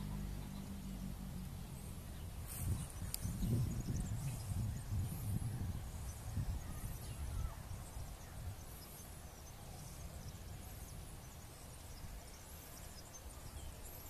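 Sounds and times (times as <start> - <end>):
small birds chirping: 0.0 - 14.0
wind rumble on microphone: 0.0 - 14.0.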